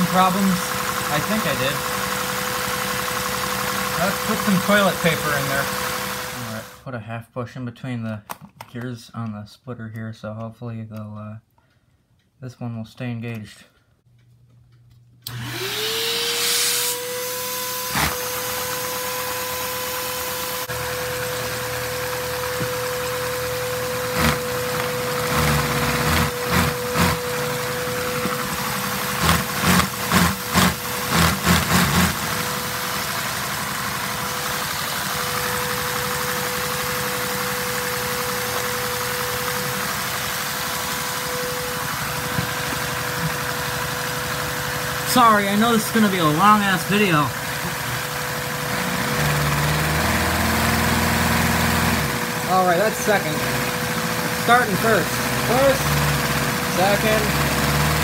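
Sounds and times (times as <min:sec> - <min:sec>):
vacuum cleaner motor whine: 0:00.0 - 0:06.8, 0:15.3 - 0:58.0.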